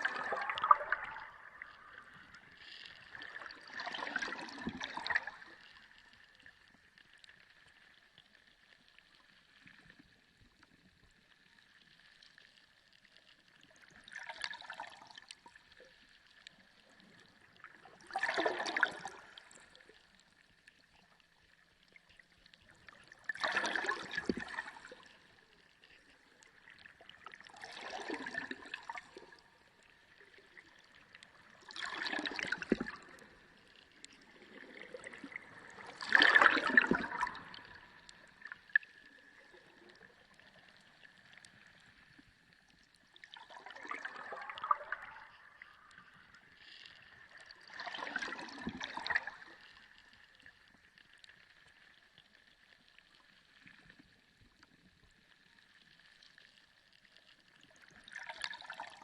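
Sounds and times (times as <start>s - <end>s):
water sloshing underwater: 0.0s - 59.0s.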